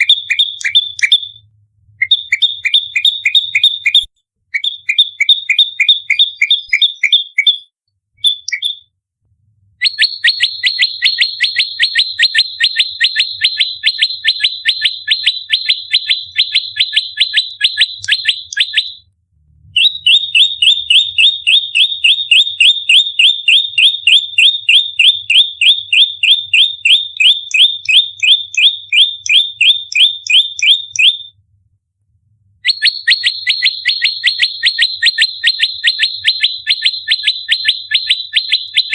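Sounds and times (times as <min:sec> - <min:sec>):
songbird sharp chirps: 0:00.0 - 0:08.9, 0:09.8 - 0:19.1, 0:19.8 - 0:31.4, 0:32.6 - 0:38.9.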